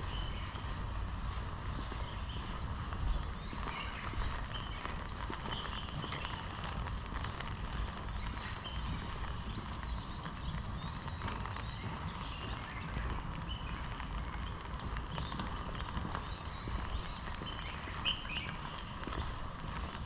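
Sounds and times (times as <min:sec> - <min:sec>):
footsteps on forest path: 0:00.0 - 0:20.0
small birds chirping: 0:00.0 - 0:20.0.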